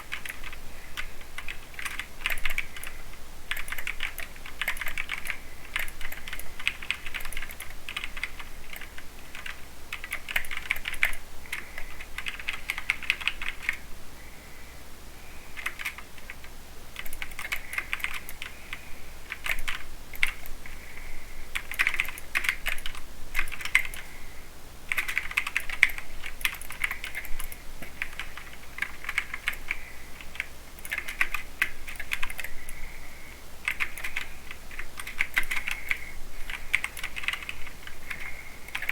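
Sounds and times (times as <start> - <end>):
mechanical keyboard typing: 0.0 - 13.8, 15.6 - 20.6, 21.6 - 24.1, 24.9 - 32.8, 33.6 - 38.9.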